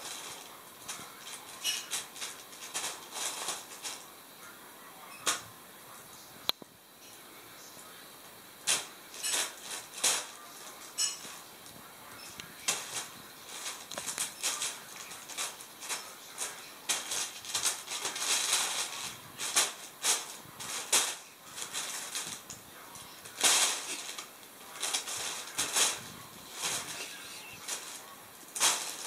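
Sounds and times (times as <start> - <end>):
plastic bag rustling and crinkling: 0.0 - 4.2, 8.6 - 29.0.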